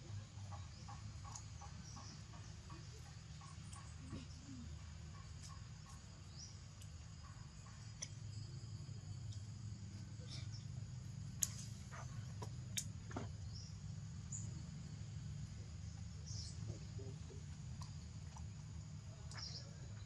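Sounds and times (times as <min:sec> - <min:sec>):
insects chirring: 0:00.1 - 0:20.0.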